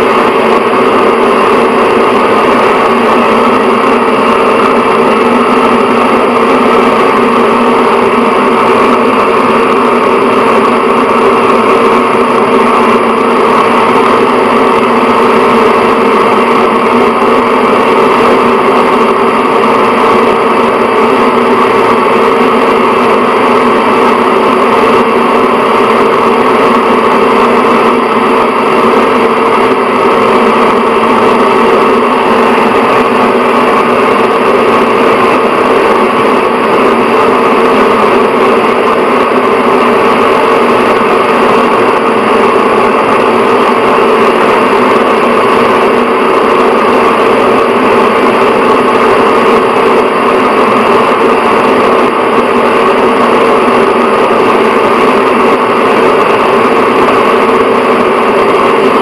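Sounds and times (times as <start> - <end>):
exhaust fan whirring: 0.0 - 59.0.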